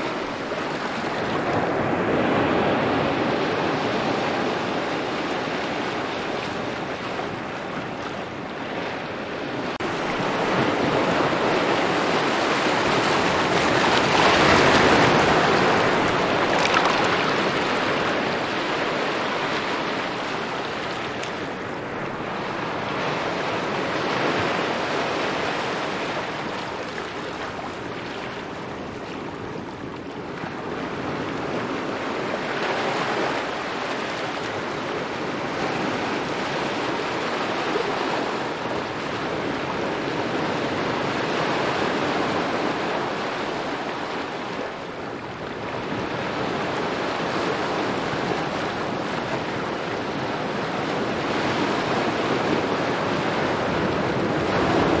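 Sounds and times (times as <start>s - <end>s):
ocean waves and surf: 0.0s - 55.0s.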